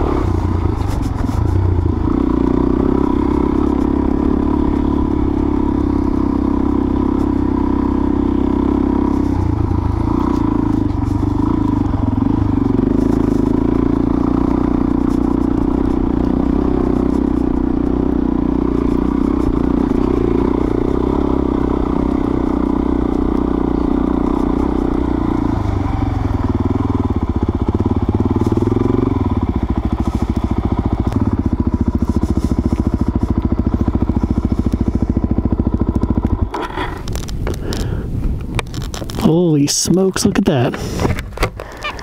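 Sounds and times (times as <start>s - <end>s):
dirt bike engine chugging: 0.0s - 38.1s.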